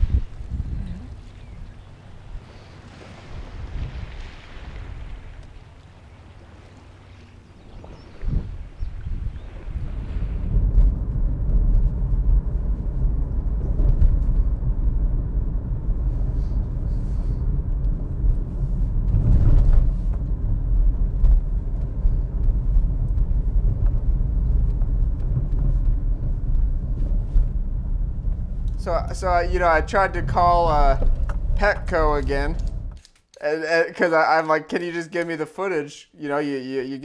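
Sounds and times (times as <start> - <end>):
vehicle rumble: 0.0 - 33.2.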